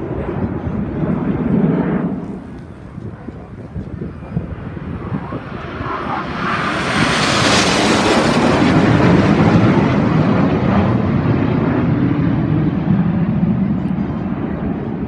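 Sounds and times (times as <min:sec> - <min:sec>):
aircraft flying past: 0:00.0 - 0:15.0.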